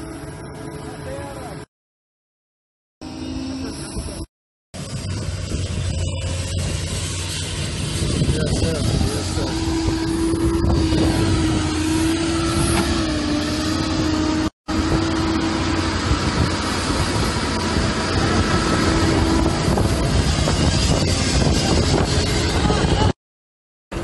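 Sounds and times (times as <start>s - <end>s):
dense outdoor noise: 0.0s - 1.7s, 3.0s - 23.2s
engine running: 0.0s - 1.7s, 3.0s - 23.2s
low wavering hum: 3.0s - 23.1s.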